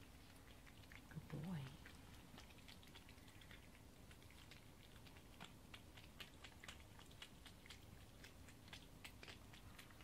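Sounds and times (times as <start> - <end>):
cat chewing and crunching food: 0.0 - 10.0.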